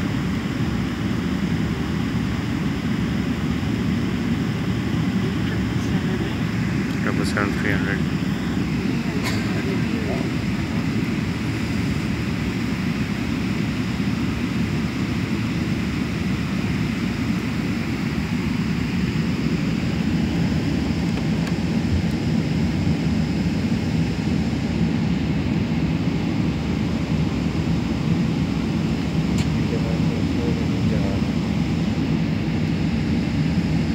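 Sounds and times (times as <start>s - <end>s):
jet airliner drone: 0.0s - 33.9s.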